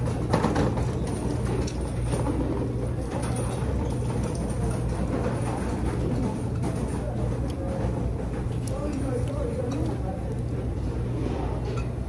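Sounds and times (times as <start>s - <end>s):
faint murmur of room: 0.0s - 12.0s.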